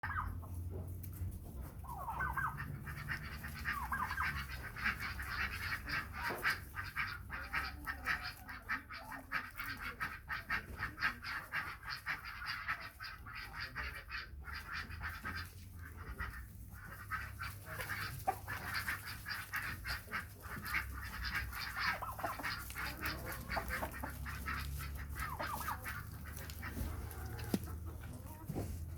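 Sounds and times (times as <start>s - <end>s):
fowl calling: 0.0s - 0.6s, 1.6s - 28.8s.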